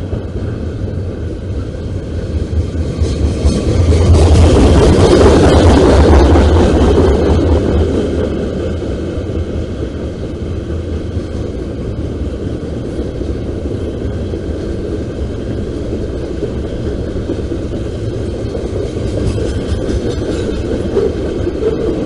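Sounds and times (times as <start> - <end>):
freight train cars rumbling past: 0.0 - 22.0.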